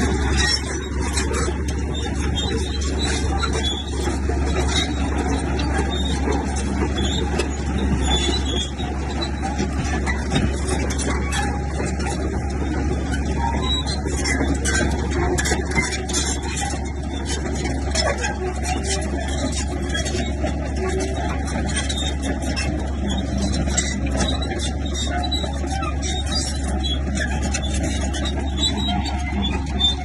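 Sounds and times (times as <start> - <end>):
bulldozer diesel engine running: 0.0 - 30.0
metallic clatter of tracks: 0.0 - 30.0.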